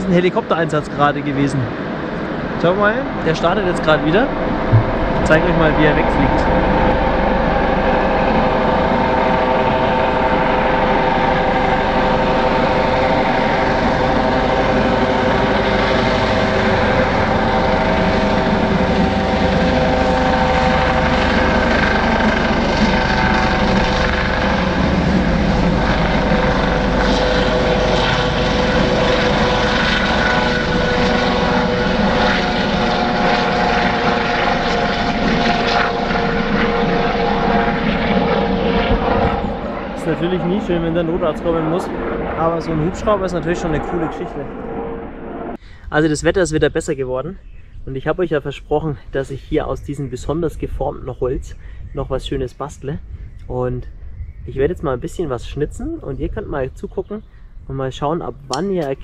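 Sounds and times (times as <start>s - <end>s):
helicopter flying: 0.0s - 59.0s.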